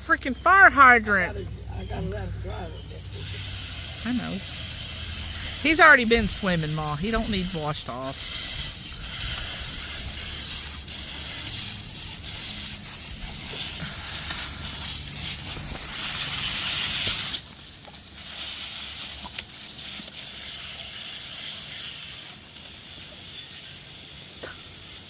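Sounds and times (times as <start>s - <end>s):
water spraying from garden hose: 0.0s - 25.0s.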